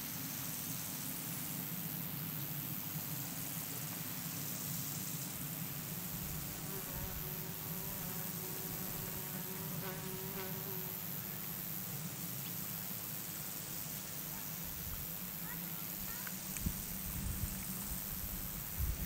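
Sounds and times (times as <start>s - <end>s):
insect buzzing: 0.1s - 19.0s.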